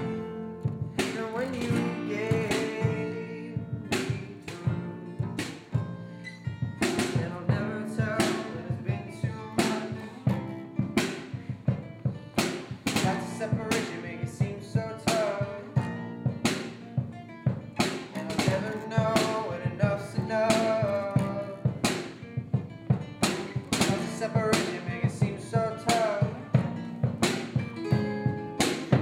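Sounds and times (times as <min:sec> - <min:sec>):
drum and cymbal hits: 0:00.0 - 0:29.0
drum kit: 0:00.0 - 0:29.0
guitars: 0:00.0 - 0:29.0.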